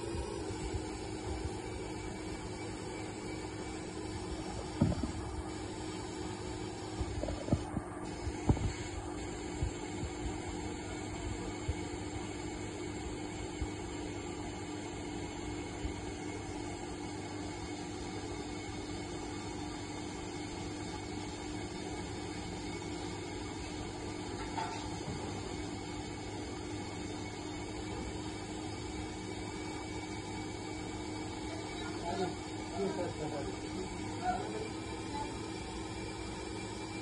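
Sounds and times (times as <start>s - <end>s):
brake lathe motor hum: 0.0s - 13.0s, 15.8s - 37.0s.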